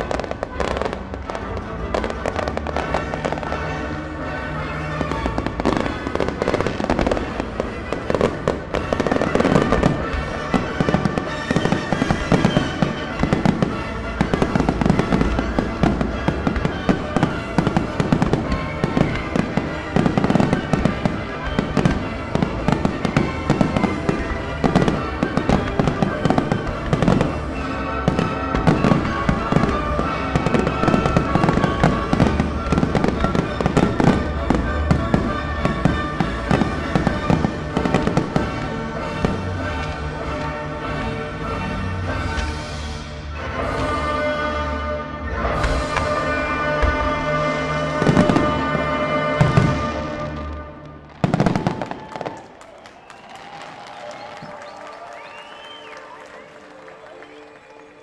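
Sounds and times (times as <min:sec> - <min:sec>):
fireworks bangs and crackles: 0:00.0 - 0:44.6, 0:45.3 - 0:58.0
music playing: 0:00.0 - 0:58.0.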